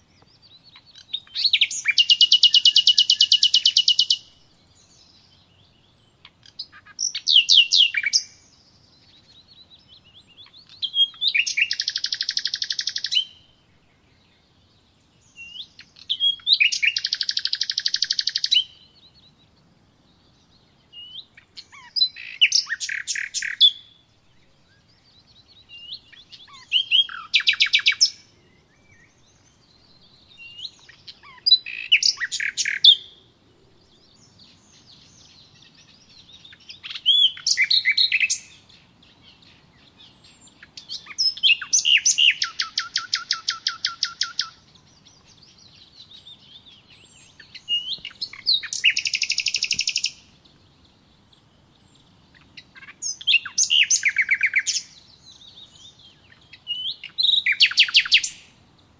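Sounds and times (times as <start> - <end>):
songbird chirps and trills: 0.0 - 58.9.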